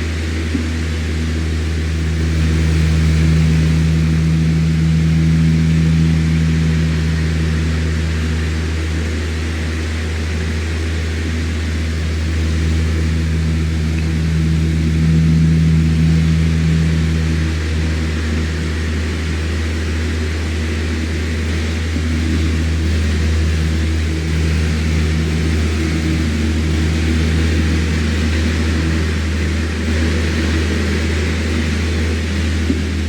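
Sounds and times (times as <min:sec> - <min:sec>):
electric fan running: 0:00.0 - 0:33.0.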